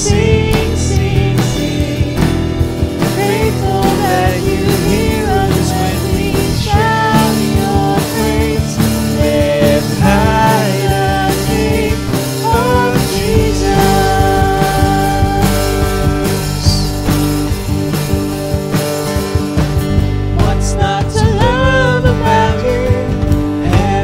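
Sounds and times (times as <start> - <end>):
man and woman singing: 0.0 - 17.2, 20.3 - 24.0
bass guitar: 0.0 - 24.0
drum kit: 0.0 - 24.0.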